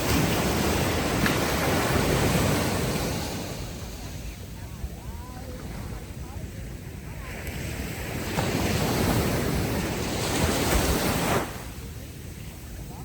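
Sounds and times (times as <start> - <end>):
ocean wave breaking on beach: 0.0 - 13.0.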